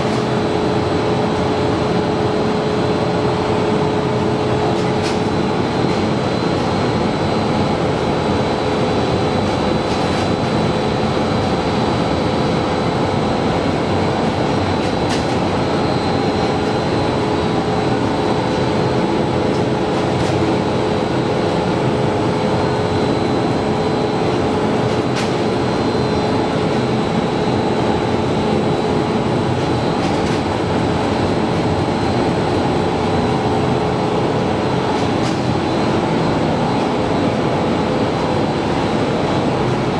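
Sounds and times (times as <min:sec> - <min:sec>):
steady pitched hum: 0:00.0 - 0:39.9.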